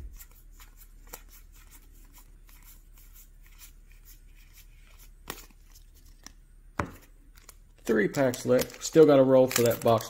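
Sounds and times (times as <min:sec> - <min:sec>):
cards being flipped through: 0:00.2 - 0:10.0.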